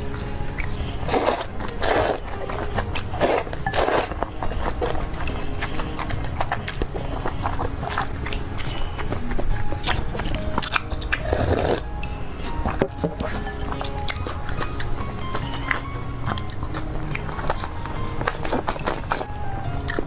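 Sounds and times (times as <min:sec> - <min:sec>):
chewing sounds: 0:00.0 - 0:20.0
person slurping: 0:00.1 - 0:20.0.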